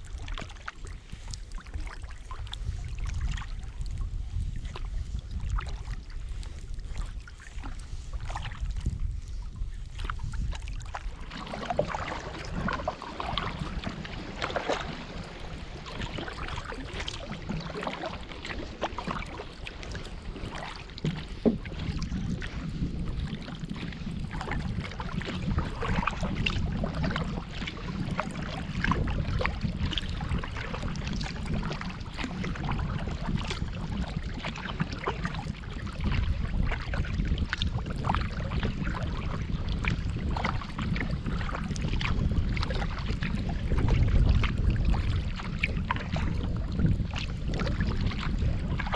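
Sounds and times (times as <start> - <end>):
kayak paddle splashing in water: 0.0 - 48.9
steady low rumble: 0.0 - 48.9.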